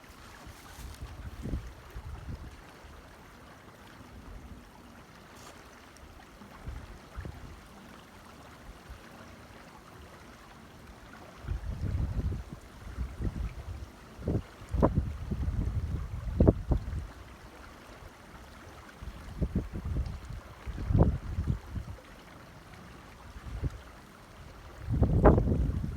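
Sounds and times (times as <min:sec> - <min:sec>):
creek water rushing and splashing: 0:00.0 - 0:25.9.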